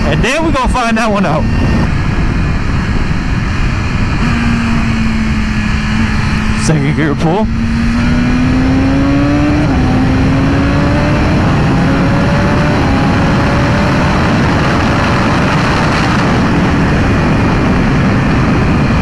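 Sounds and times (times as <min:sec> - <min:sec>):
motorcycle engine accelerating: 0:00.0 - 0:19.0
wind roar on microphone: 0:00.0 - 0:19.0.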